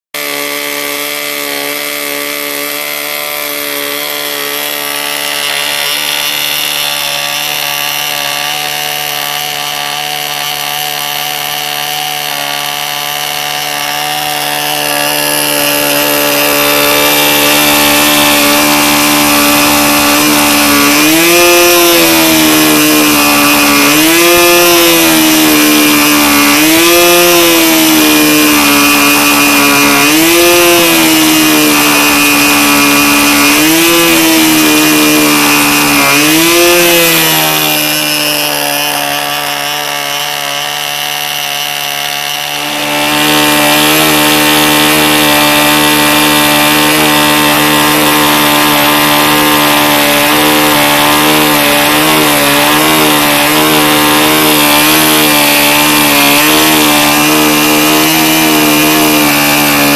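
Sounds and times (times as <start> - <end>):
model aircraft engine running: 0.4 - 59.9.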